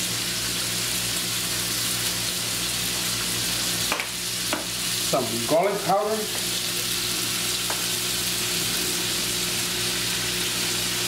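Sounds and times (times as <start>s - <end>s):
sausages sizzling in a frying pan: 0.0s - 11.0s.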